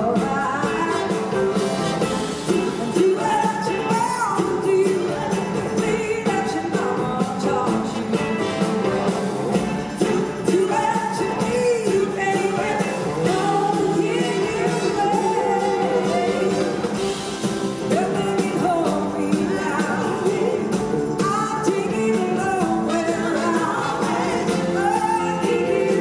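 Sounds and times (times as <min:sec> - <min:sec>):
woman singing: 0:00.0 - 0:01.6, 0:02.3 - 0:08.4, 0:09.7 - 0:26.0
bass guitar: 0:00.0 - 0:26.0
drums: 0:00.0 - 0:26.0
electric guitars: 0:00.0 - 0:26.0
keyboards: 0:00.0 - 0:26.0.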